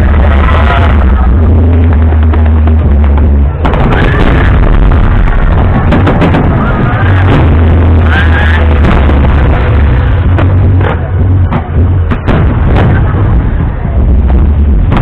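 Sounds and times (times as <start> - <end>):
firework bangs: 0.0 - 15.0
loud bass-heavy music over loudspeakers: 0.0 - 15.0.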